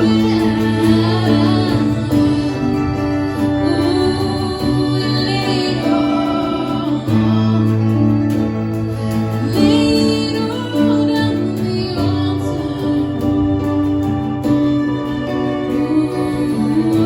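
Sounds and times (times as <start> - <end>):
slow worship band music: 0.0 - 17.0.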